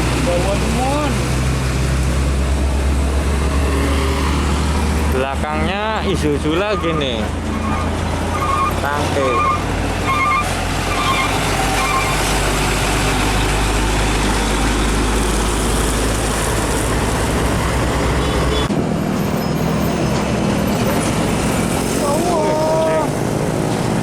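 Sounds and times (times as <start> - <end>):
heavy trucks passing: 0.0 - 24.0.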